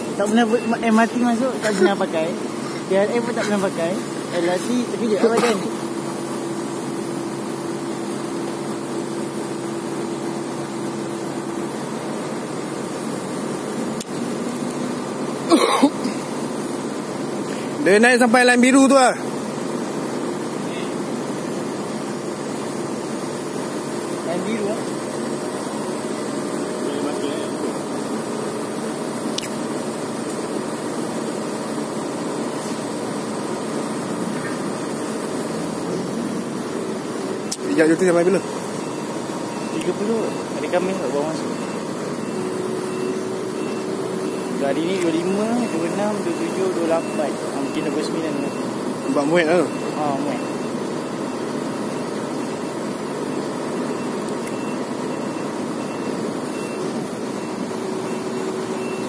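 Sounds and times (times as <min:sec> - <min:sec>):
construction machinery humming: 0:00.0 - 0:59.0
heavy engine idling: 0:00.0 - 0:59.0.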